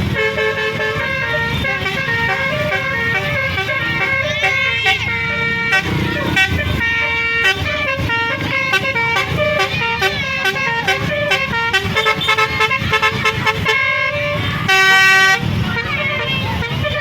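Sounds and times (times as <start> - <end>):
bus air horn playing a tune: 0.0 - 17.0.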